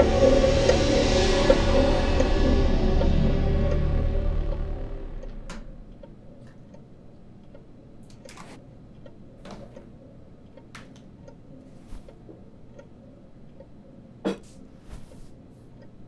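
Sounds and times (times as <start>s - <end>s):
clock ticking: 0.0s - 14.2s.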